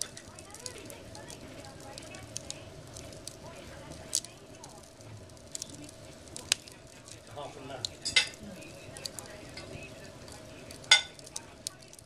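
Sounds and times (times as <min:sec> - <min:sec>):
fire popping: 0:00.0 - 0:12.0
wood fire crackling and hissing: 0:00.0 - 0:12.0.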